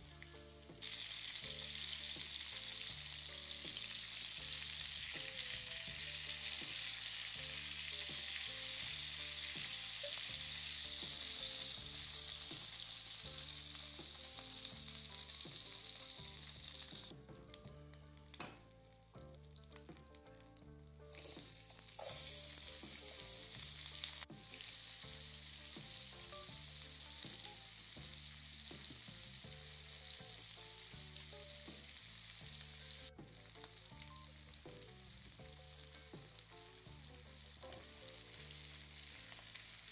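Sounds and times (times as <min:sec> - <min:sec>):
food sizzling in frying pan: 0:00.0 - 0:39.9
soft background music: 0:00.0 - 0:39.9.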